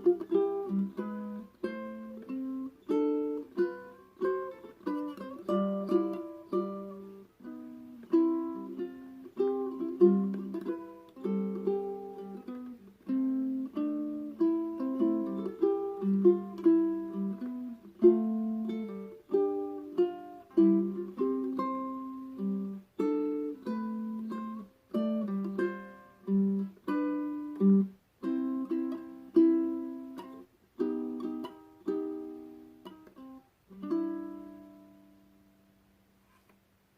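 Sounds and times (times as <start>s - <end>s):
ukulele fingerstyle melody: 0.0s - 36.5s.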